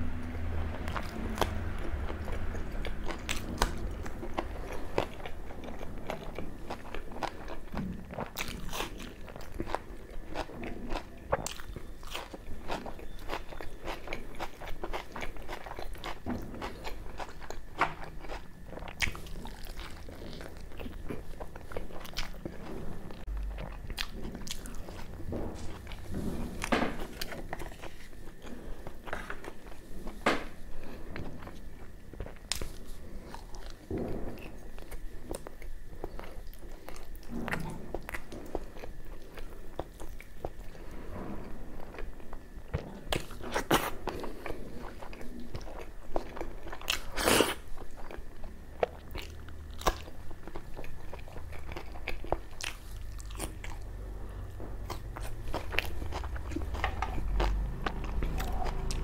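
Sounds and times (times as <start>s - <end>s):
chewing: 0.3s - 59.0s.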